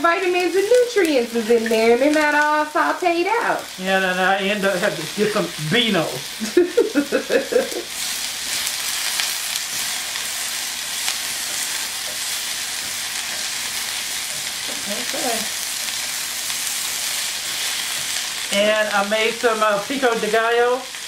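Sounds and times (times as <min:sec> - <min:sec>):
tongs stirring vegetables: 0:00.0 - 0:21.0
vegetables sizzling in a grill pan: 0:00.0 - 0:21.0.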